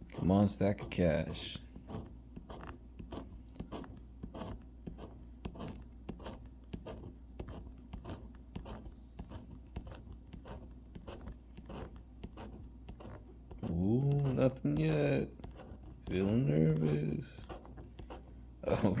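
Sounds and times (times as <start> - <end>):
lottery ticket being scratched: 0.0 - 19.0.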